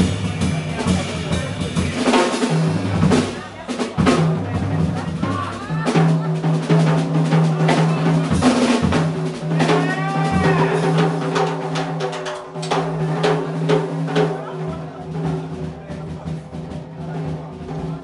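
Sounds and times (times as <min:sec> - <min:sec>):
jazz band playing: 0:00.0 - 0:18.0
snare and bass drum strokes: 0:00.0 - 0:18.0.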